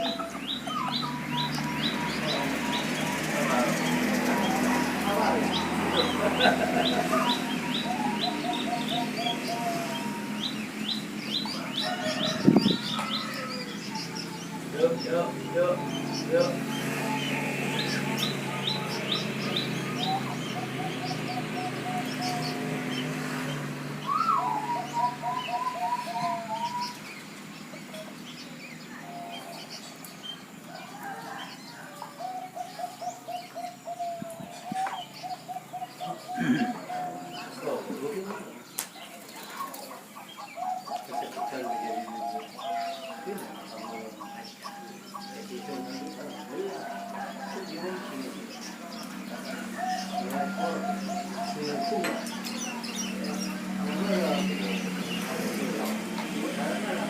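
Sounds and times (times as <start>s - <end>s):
doves cooing: 0.0s - 57.0s
high bird chirping: 0.0s - 57.0s.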